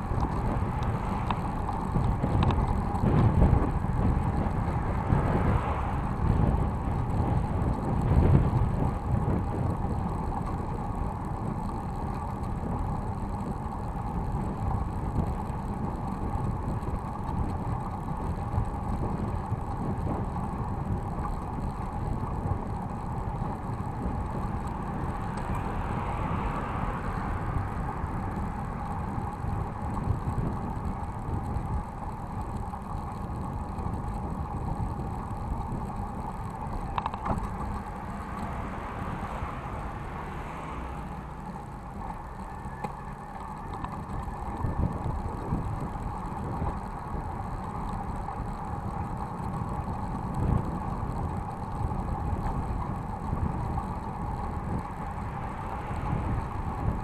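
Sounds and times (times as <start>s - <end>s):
bicycle mechanical rattle: 0.0s - 57.0s
bike tyres rumbling: 0.0s - 57.0s.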